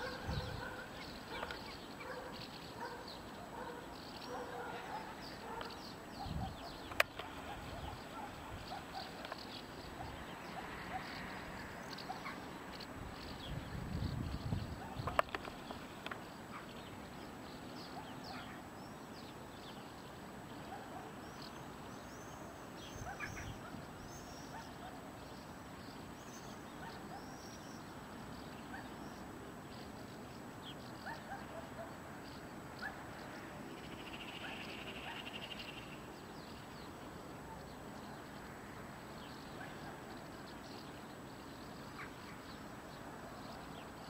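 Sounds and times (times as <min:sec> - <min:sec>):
distant town hum: 0:00.0 - 0:44.0
small birds chirping: 0:00.0 - 0:44.0.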